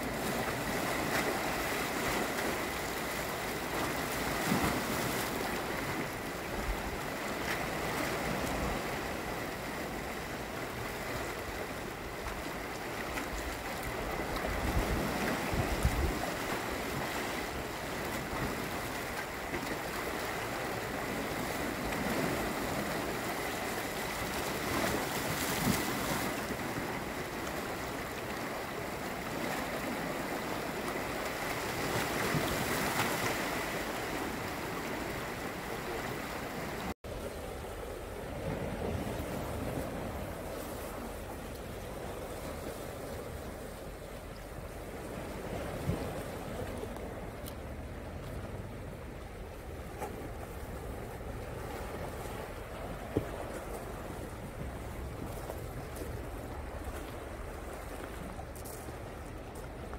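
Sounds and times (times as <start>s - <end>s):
waves splashing against rocks: 0.0s - 59.9s.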